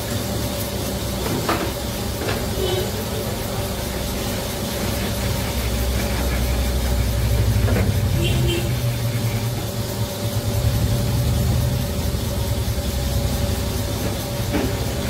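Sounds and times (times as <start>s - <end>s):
motor humming with whine: 0.0s - 15.0s.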